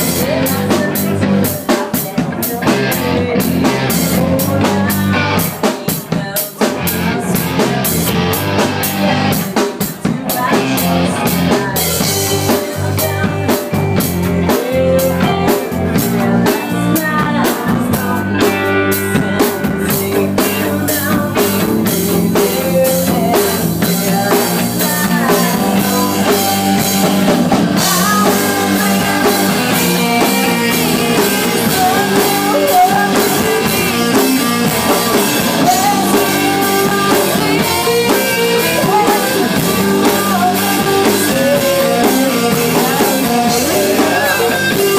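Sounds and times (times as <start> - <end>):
live rock band playing: 0.0 - 44.9
person singing: 0.0 - 44.9.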